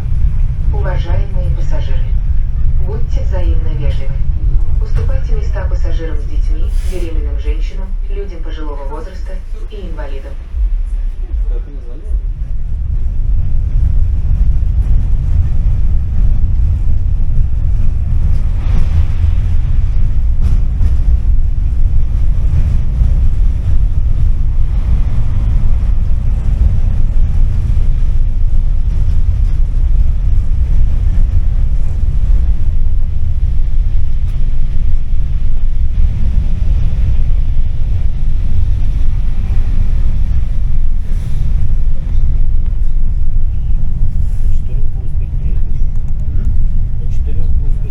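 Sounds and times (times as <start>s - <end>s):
tram rumbling on rails: 0.0s - 47.9s.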